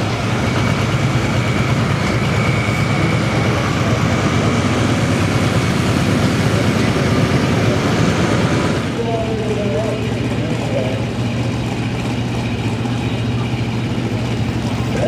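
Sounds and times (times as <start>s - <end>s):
diesel tractor engine running loud: 0.0s - 15.0s.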